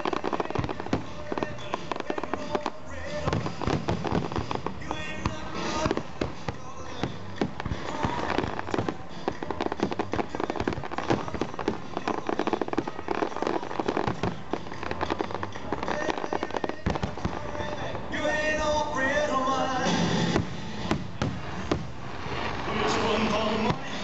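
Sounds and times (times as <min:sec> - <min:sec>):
fireworks crackling and popping: 0:00.0 - 0:24.0
fireworks loud bangs: 0:00.0 - 0:24.0.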